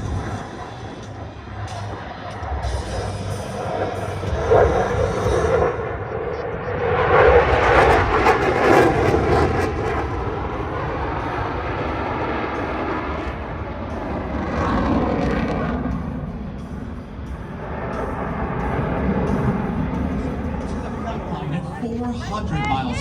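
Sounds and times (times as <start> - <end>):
jet roar overhead: 0.0 - 23.0.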